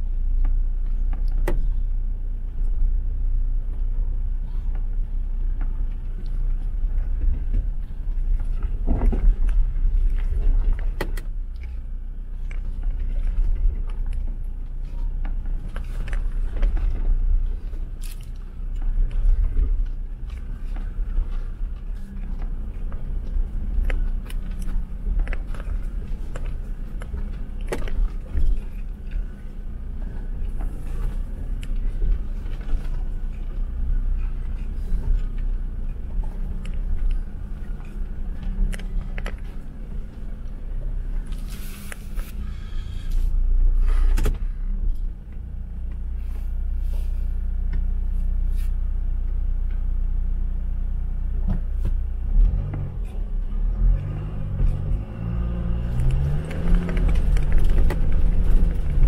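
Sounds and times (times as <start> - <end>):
engine and tyre rumble: 0.0 - 59.0.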